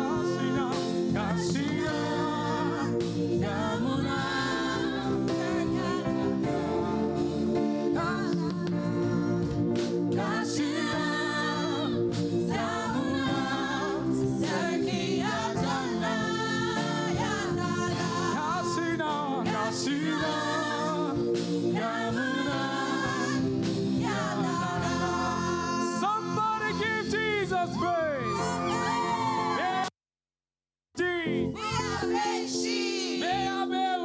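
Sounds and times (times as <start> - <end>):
instrumental backing: 0.0 - 29.8
choir singing gospel: 0.0 - 29.9, 31.0 - 34.0.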